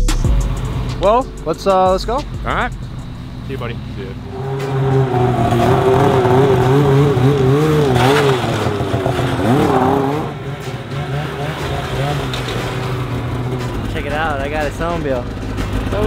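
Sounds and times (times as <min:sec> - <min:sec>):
snowmobile engine revving: 0:00.5 - 0:16.0.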